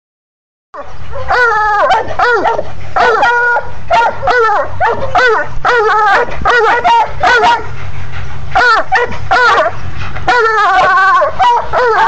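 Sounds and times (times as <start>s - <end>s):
puppies yelping and whining: 0.8s - 12.0s.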